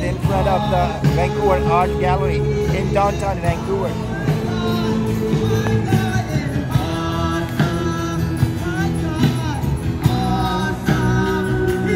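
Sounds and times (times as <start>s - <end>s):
live band worship music: 0.0s - 11.9s
person singing: 0.0s - 11.9s.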